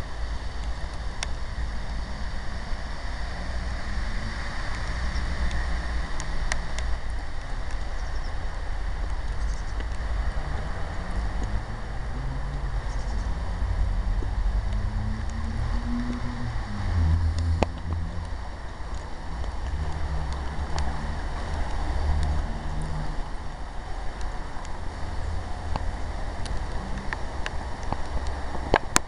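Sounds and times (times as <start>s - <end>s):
faint rain hiss: 0.0s - 29.0s
wind rumble on microphone: 0.0s - 29.0s
water drips ticking: 0.1s - 29.0s.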